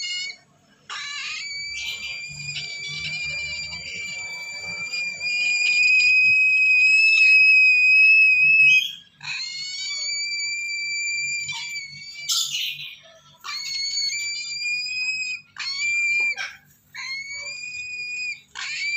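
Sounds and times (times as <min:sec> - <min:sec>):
chicks whistling calls: 0:00.0 - 0:18.9
harsh squawk: 0:00.0 - 0:18.9.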